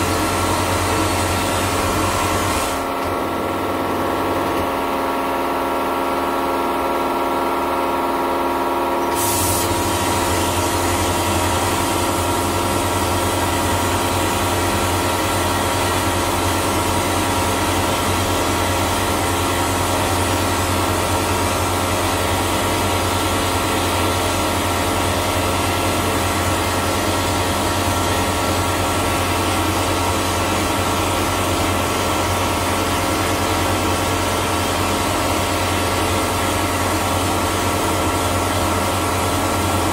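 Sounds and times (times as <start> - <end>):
pump humming: 0.0 - 39.9.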